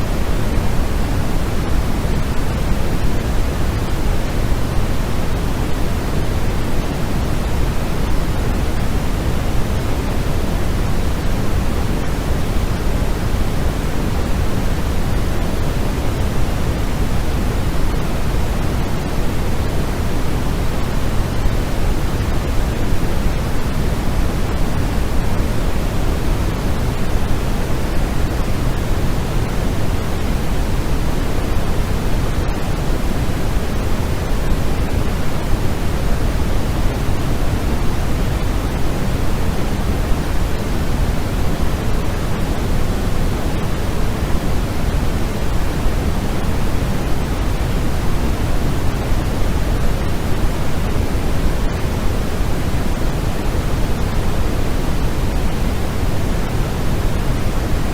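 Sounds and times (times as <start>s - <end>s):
steady white noise: 0.0s - 57.9s.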